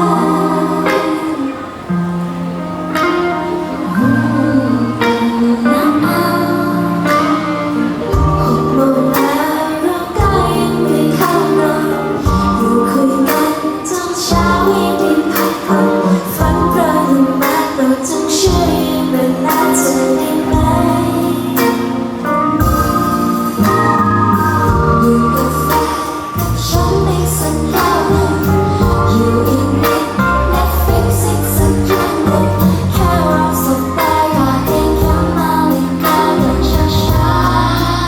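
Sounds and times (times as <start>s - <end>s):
pop song with female vocals: 0.0s - 2.2s, 3.8s - 38.0s.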